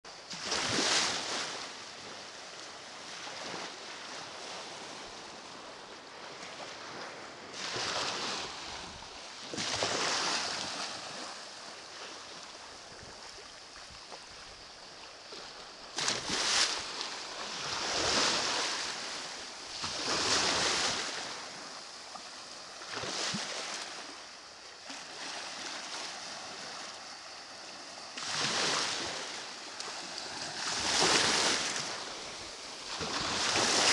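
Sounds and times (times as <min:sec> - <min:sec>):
small waves on pebbly shore: 0:00.2 - 0:33.9.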